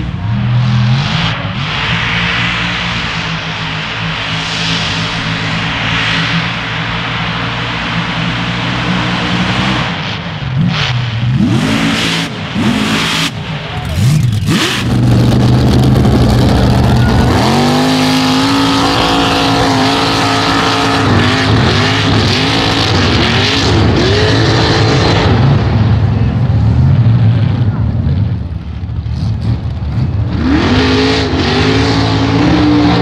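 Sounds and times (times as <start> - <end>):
truck engines revving: 0.0 - 33.0.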